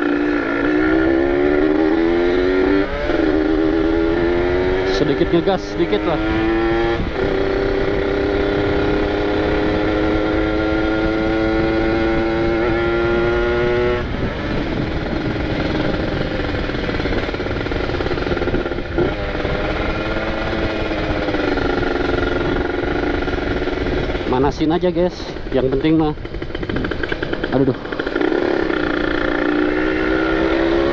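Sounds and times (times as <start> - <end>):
two-stroke motorcycle engine revving: 0.0 - 30.9.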